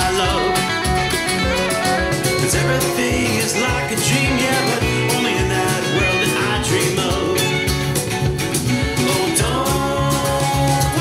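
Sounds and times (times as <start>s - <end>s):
song with guitar and beat: 0.0s - 11.0s.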